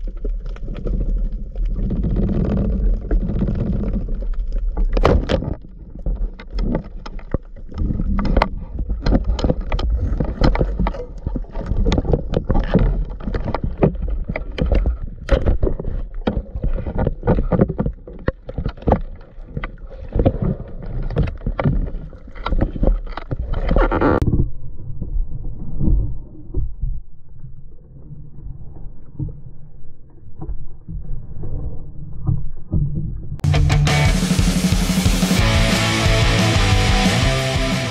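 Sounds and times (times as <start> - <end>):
underwater rumble and sloshing: 0.0 - 33.4.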